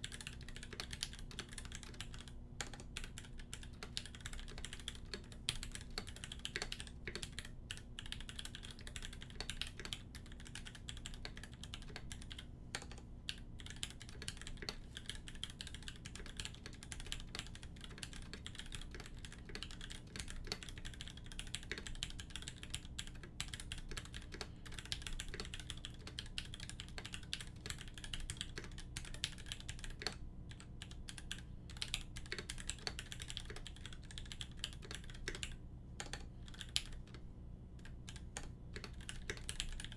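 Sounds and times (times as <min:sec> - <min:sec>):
mechanical keyboard typing: 0:00.0 - 0:37.2, 0:37.8 - 0:39.9.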